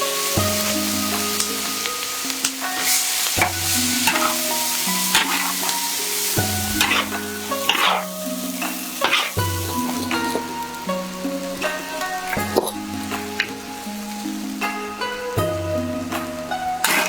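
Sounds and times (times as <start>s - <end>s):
scraping strokes: 0.0s - 13.6s, 16.2s - 17.0s
background music: 0.0s - 17.0s
food sizzling: 0.0s - 17.0s.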